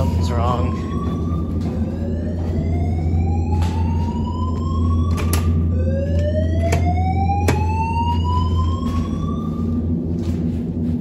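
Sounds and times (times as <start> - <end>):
fire alarm whoop tone: 0.0 - 10.1
steady low hum: 0.0 - 11.0
footsteps on metal stairs: 0.9 - 5.5, 6.7 - 11.0.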